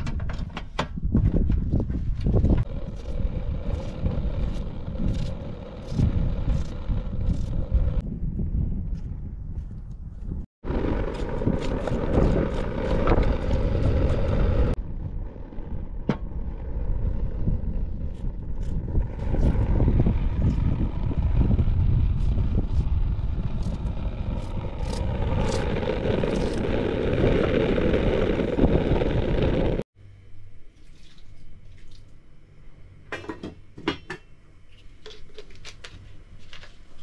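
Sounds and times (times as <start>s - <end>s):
wind buffeting microphone: 0.0s - 29.8s.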